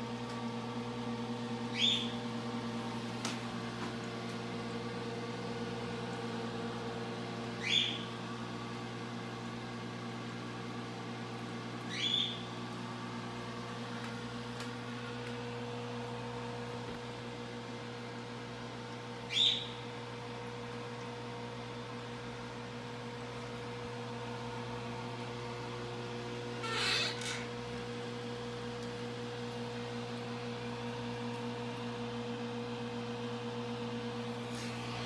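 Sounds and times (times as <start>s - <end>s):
aquarium pump electrical hum: 0.0s - 35.0s.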